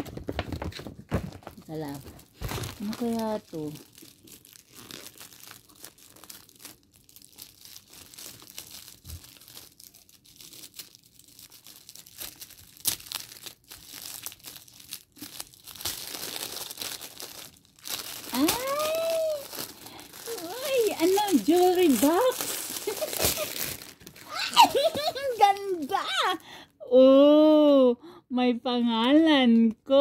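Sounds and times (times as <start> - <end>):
wrapping paper crinkling and tearing: 1.2 - 26.6.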